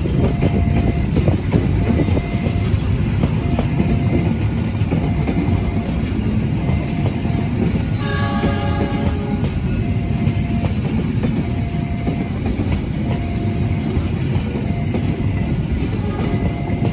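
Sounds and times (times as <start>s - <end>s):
rail clicks: 0.0s - 16.9s
train rumbling past: 0.0s - 16.9s.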